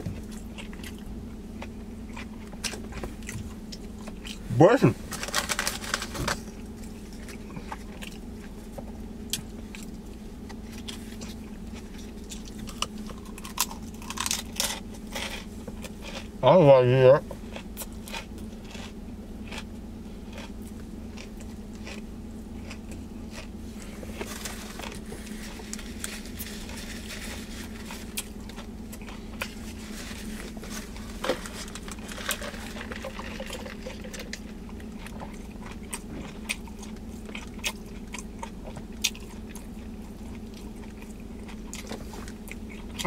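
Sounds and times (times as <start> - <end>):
person chewing: 0.0 - 4.6, 5.2 - 16.4, 17.2 - 43.0
steady low hum: 0.0 - 43.0.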